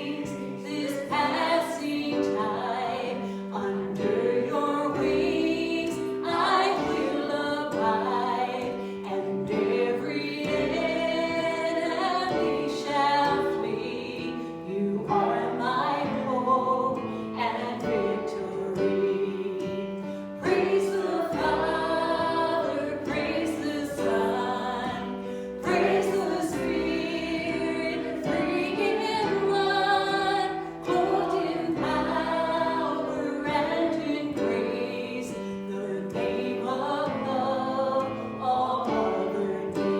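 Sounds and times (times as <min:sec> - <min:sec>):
voices singing worship song: 0:00.0 - 0:39.9.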